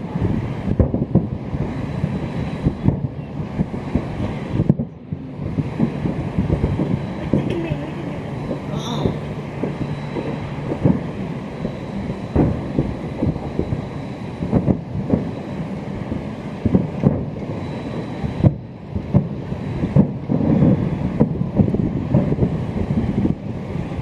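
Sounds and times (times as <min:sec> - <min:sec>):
fireworks booming and popping: 0:00.0 - 0:24.0
steady rumble: 0:00.0 - 0:24.0
wind on microphone: 0:00.0 - 0:24.0.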